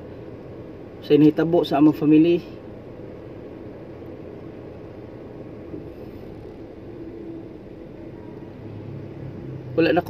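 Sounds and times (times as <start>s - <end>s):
air conditioning running: 0.0s - 10.0s.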